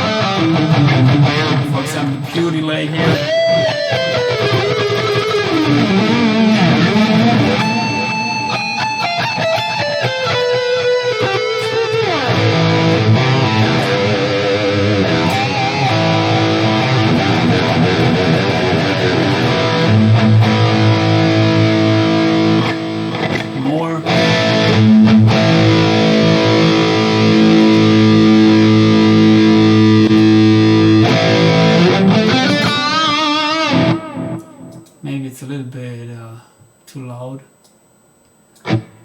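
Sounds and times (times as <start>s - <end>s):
distorted electric guitar with delay: 0.0s - 35.0s, 38.6s - 39.0s.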